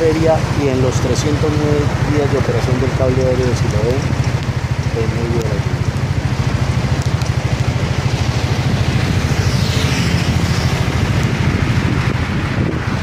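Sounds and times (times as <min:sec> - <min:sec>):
motorcycle passing: 0:00.0 - 0:13.0
traffic on a wet road: 0:00.0 - 0:13.0
wind buffeting microphone: 0:00.0 - 0:13.0.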